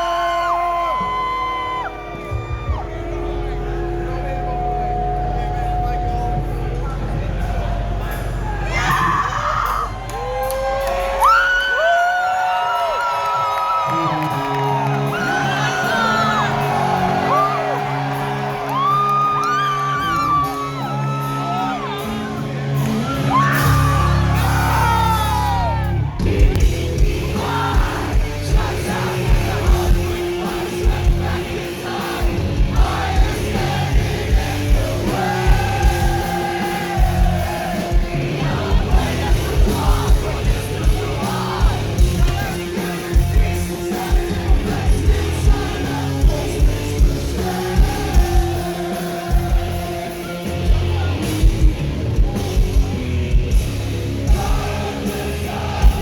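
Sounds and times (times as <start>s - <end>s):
distorted electric guitars: 0.0s - 11.2s, 13.8s - 56.0s
bass guitar: 0.0s - 12.2s, 13.8s - 56.0s
sung and shouted vocals: 7.6s - 56.0s.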